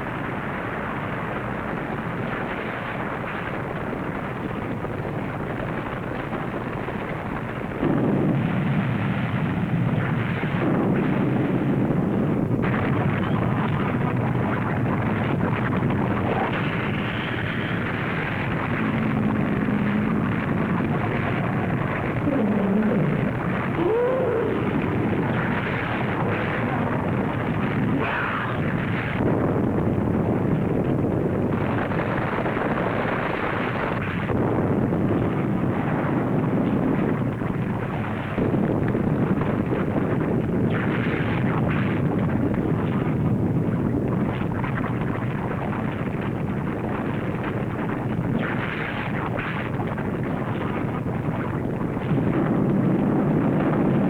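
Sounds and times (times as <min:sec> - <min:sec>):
volcanic eruption rumbling: 0:00.0 - 0:54.0.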